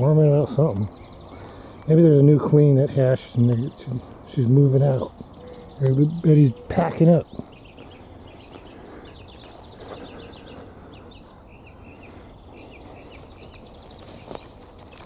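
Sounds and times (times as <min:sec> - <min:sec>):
outdoor background hiss: 0:00.0 - 0:15.0
small birds chirping: 0:00.0 - 0:15.0.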